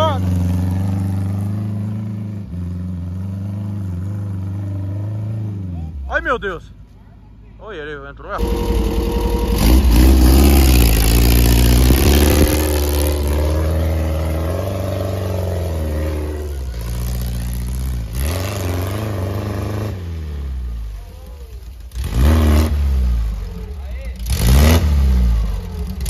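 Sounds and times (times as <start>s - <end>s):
off-road buggy engine revving: 0.0s - 26.0s.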